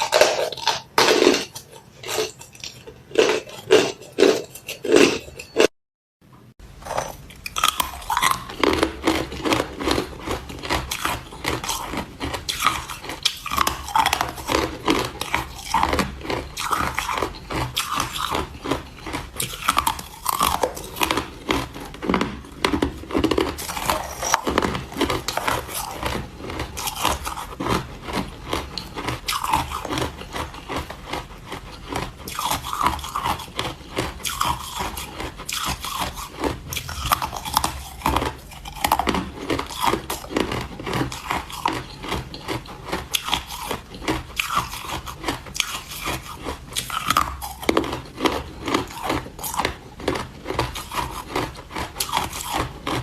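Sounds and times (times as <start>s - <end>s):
ice being chewed: 0.0s - 5.7s, 6.8s - 53.0s.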